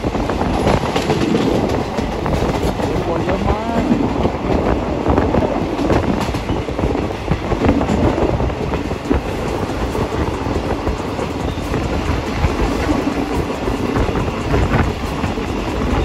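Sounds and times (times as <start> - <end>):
train clatter and knocks: 0.0 - 16.0
wheels rumbling on rail: 0.0 - 16.0.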